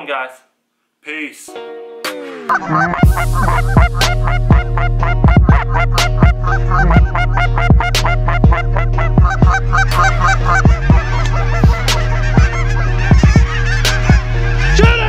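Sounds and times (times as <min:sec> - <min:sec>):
background music with steady beat: 0:01.5 - 0:15.0
geese calling: 0:02.5 - 0:15.0.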